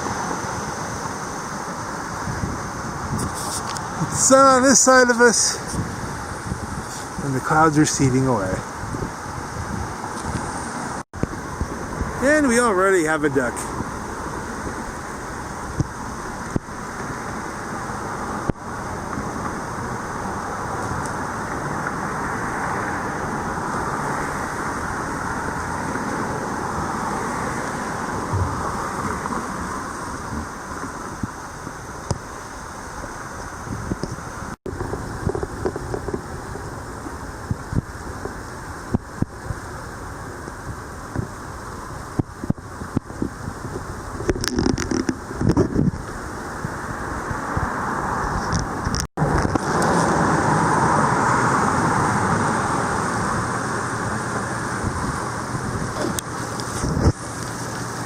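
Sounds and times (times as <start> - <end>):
road vehicle approaching: 0.0 - 42.4, 43.1 - 58.0
fast-flowing river rushing: 0.0 - 45.4, 46.0 - 58.0.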